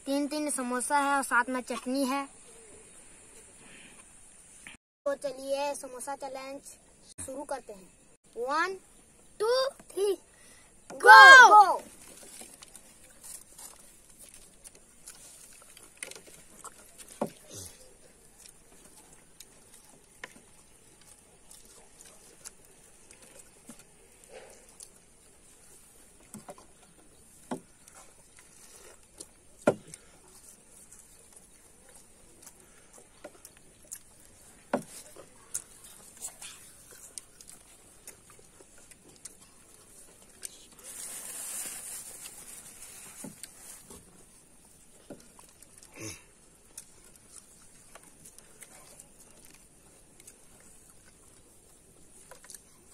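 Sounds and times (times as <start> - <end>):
faint chewing and crunching: 0.0 - 52.9.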